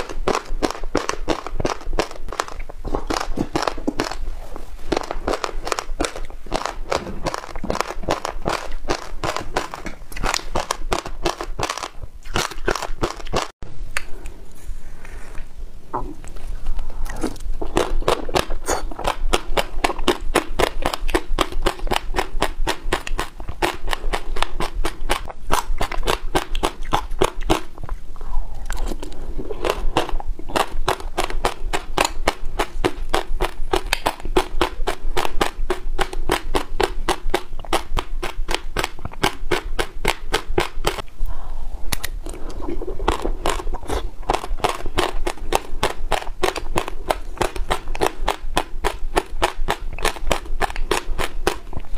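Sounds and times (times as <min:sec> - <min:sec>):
chewing crunchy seeds: 0:00.0 - 0:13.5, 0:16.2 - 0:41.3, 0:41.9 - 0:51.9.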